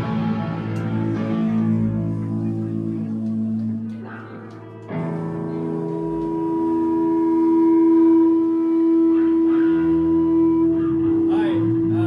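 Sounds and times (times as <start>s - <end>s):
guitar amplifier feedback howl: 0.0s - 12.0s.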